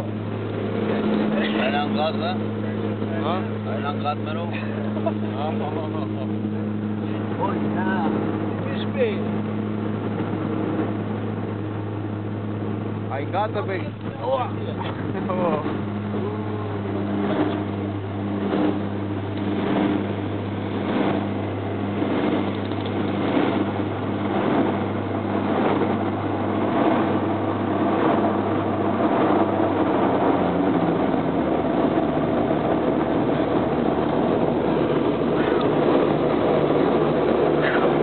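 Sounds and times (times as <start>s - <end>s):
engine and airflow noise: 0.0s - 38.0s
propeller drone: 0.0s - 38.0s.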